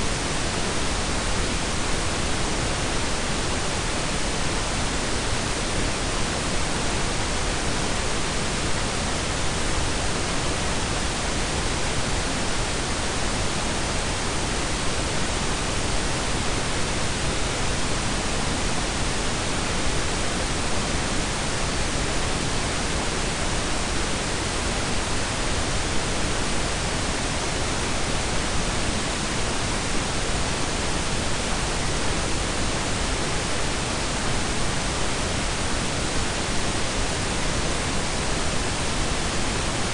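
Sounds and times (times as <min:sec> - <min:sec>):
pink and brown noise: 0:00.0 - 0:39.9.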